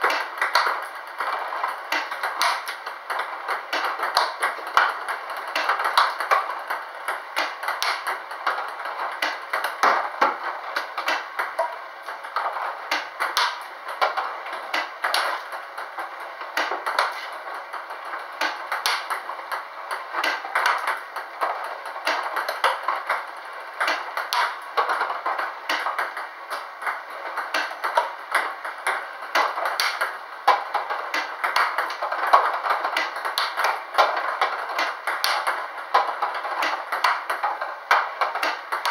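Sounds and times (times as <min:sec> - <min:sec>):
table tennis ball hits and bounces: 0:00.0 - 0:38.9.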